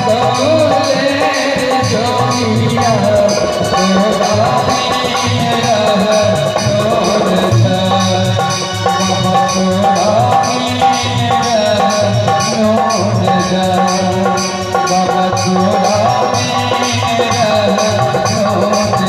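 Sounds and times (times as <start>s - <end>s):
percussive beat: 0.0s - 19.0s
wavering lead melody: 0.0s - 19.0s.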